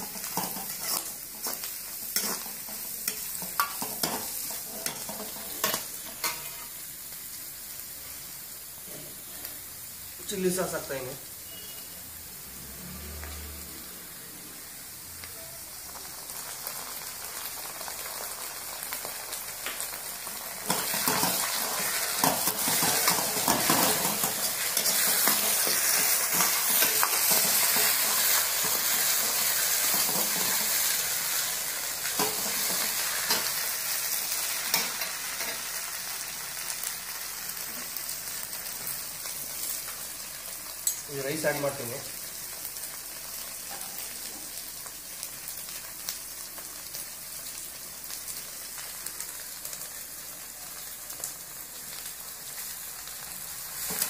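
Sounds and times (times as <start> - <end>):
vegetables sizzling in wok: 0.0 - 54.0.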